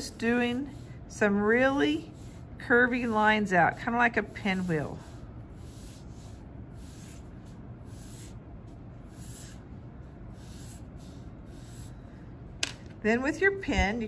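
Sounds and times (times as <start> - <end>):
pencil scratching on paper: 0.0 - 9.6, 10.3 - 12.0.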